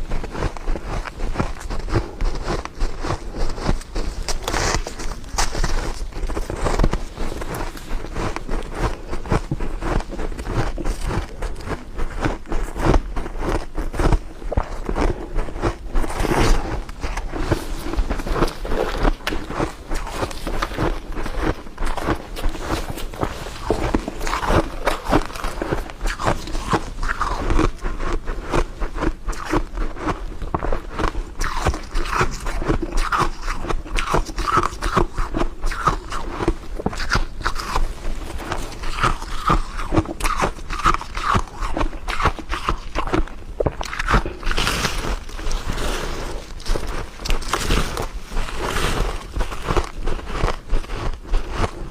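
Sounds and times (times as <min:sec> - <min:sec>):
crunching frost: 0:00.0 - 0:51.9.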